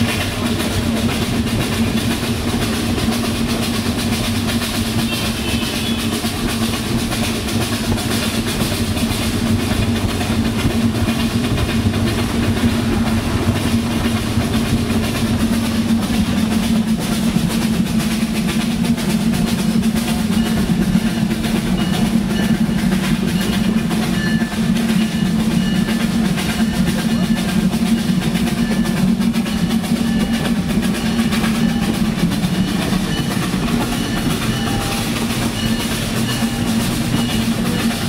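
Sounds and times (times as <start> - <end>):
train rumbling and rattling: 0.0 - 38.0.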